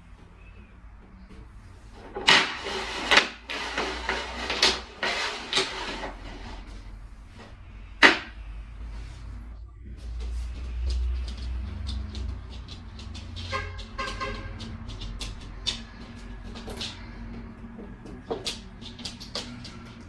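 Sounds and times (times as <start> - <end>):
scraping and rustling: 0.2 - 20.0.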